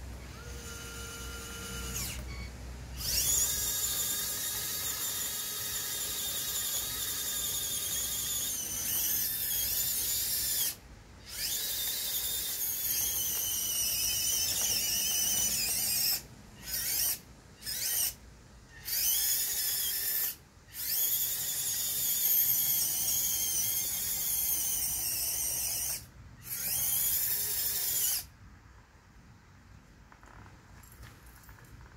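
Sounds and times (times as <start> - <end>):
toy electric motors whining: 0.0 - 28.4.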